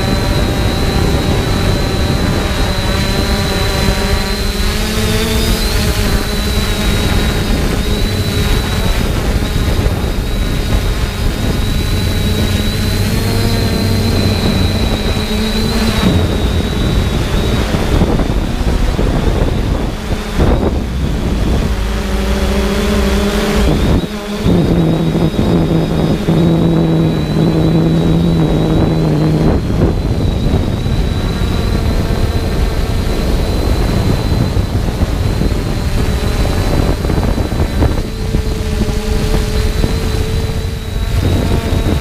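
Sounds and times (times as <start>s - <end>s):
drone motors whirring: 0.0s - 42.0s.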